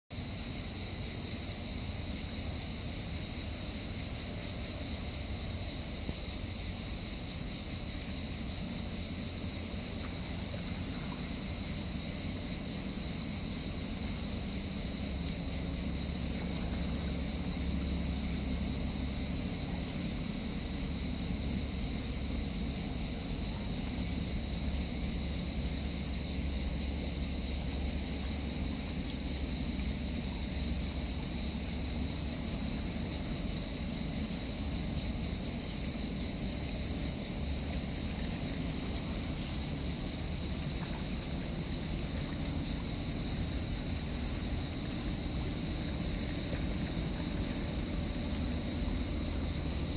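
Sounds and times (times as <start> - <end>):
cicadas singing: 0.1 - 49.9
low ship engine rumble: 0.4 - 49.9.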